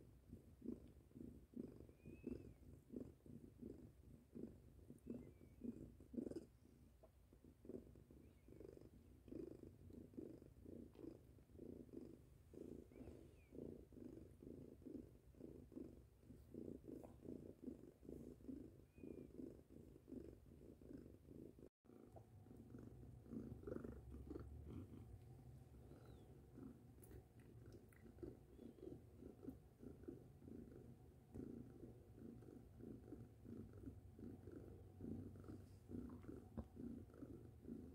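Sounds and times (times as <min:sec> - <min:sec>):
cat purring: 0:00.0 - 0:37.9.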